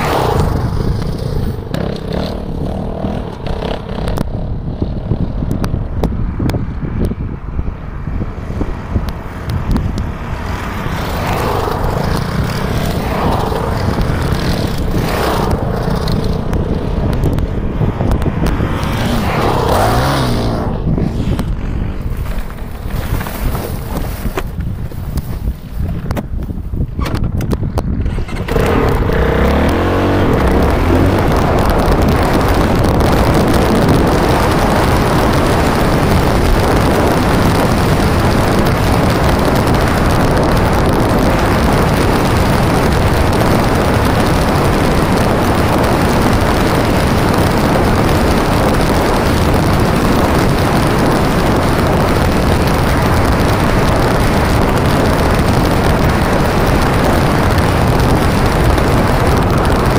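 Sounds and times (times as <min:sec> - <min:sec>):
dirt bike engine revving: 0:00.0 - 0:05.0, 0:10.1 - 0:23.0, 0:28.1 - 0:59.9
wind rushing over microphone: 0:00.0 - 0:59.9.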